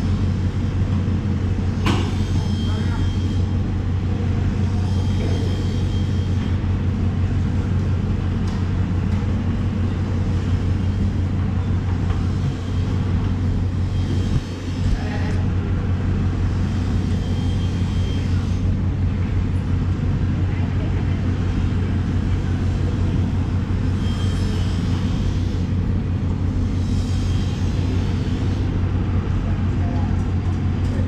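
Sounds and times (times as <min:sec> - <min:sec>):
low mechanical hum and rumble: 0:00.0 - 0:31.0.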